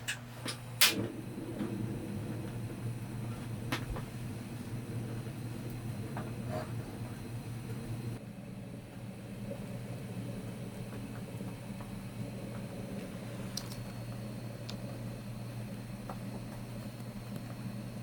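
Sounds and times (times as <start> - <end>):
rain drumming on camper roof: 0.8 - 18.0.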